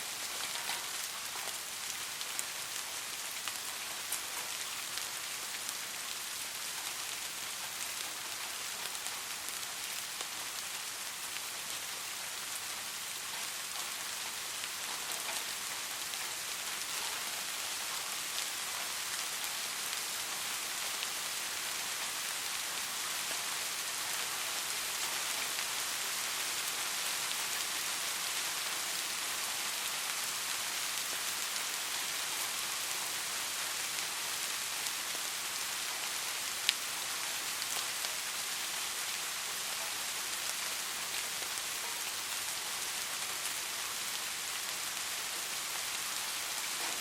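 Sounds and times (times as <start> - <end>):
soft rain with drop patter: 0.0 - 47.0.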